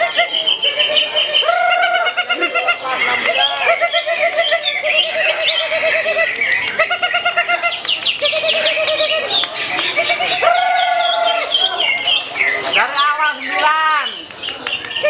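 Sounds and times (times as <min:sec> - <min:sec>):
high bird chirps: 0:00.0 - 0:15.0
songbirds trilling: 0:00.0 - 0:15.0.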